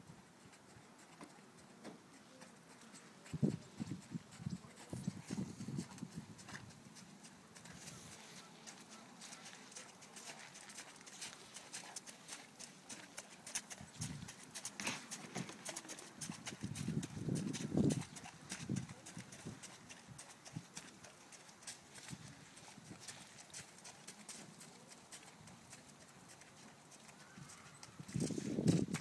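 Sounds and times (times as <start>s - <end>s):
horse hoofbeats clip-clopping: 0.0s - 29.0s.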